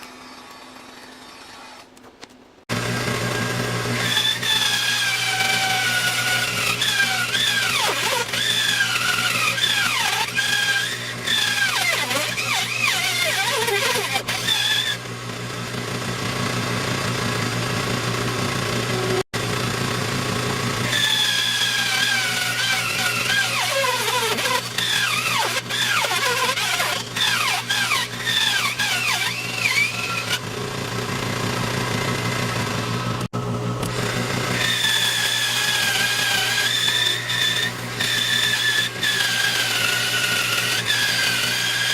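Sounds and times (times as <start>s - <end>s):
bandsaw cutting wood: 2.7s - 41.9s
power tool motor whining: 2.7s - 41.9s.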